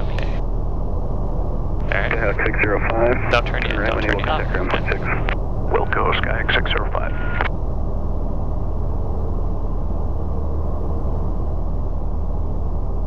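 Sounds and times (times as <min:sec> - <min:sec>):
airflow noise: 0:00.0 - 0:12.4
aircraft engine and propeller drone: 0:00.0 - 0:13.0.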